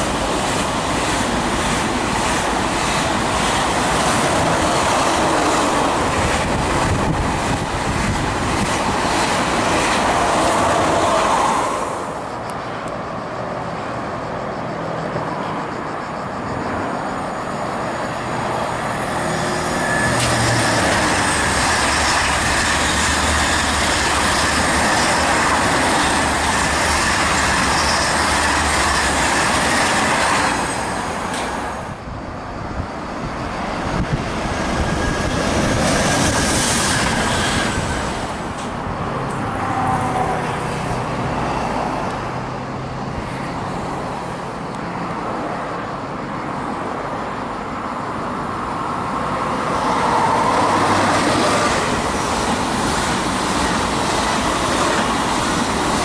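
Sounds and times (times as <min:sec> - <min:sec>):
electric train passing quietly: 0:00.0 - 0:56.0
high-speed train rushing past: 0:00.0 - 0:56.0.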